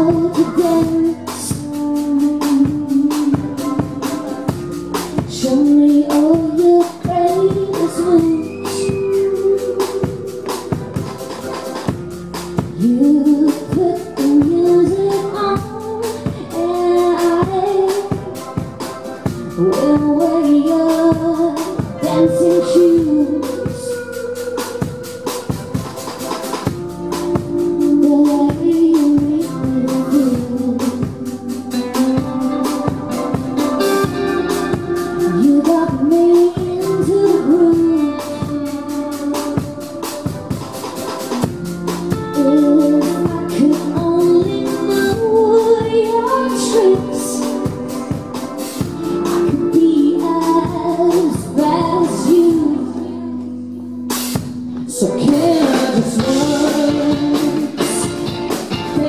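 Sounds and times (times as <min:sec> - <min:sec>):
woman singing: 0:00.0 - 0:11.7, 0:12.6 - 0:59.0
bass guitar: 0:00.0 - 0:59.0
electric guitar: 0:00.0 - 0:59.0
rock band playing: 0:00.0 - 0:59.0.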